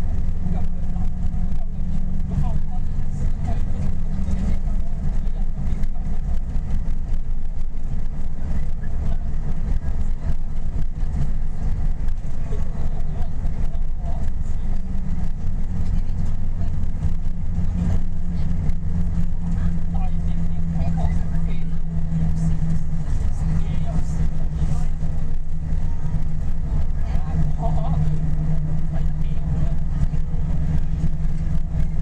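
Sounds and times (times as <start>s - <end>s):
vehicle engine and tyre rumble: 0.0s - 32.0s.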